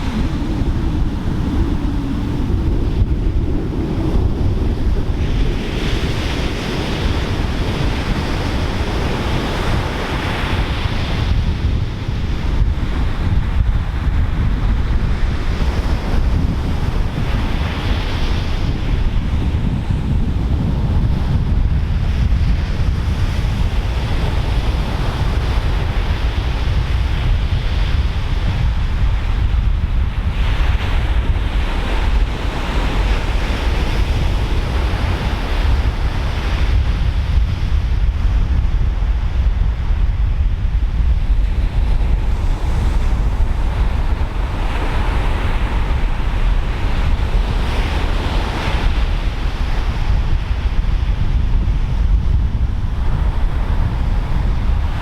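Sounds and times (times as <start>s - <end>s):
surf breaking ashore: 0.0s - 55.0s
wind buffeting microphone: 0.0s - 55.0s.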